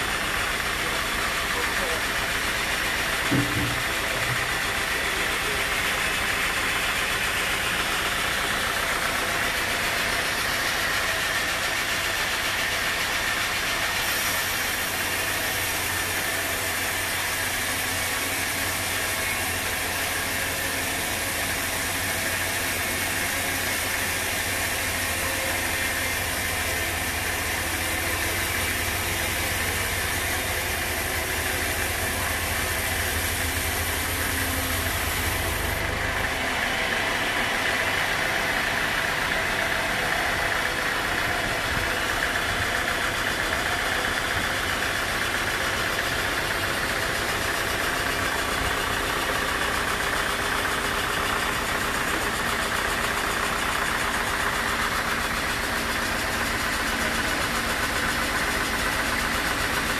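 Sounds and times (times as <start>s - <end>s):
band saw cutting log: 0.0s - 59.9s
deep mechanical hum: 0.0s - 59.9s.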